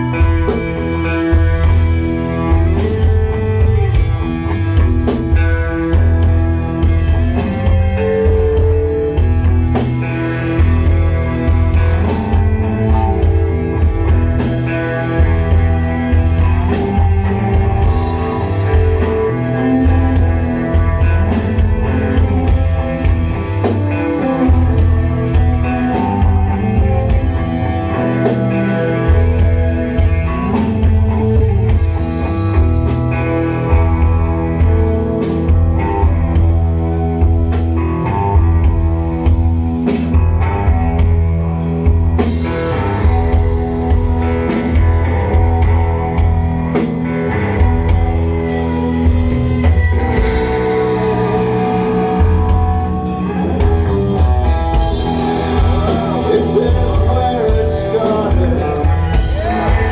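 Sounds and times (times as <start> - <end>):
drum kit beat: 0.0 - 59.9
electric guitar: 0.0 - 59.9
heavy sustained bass: 0.0 - 59.9.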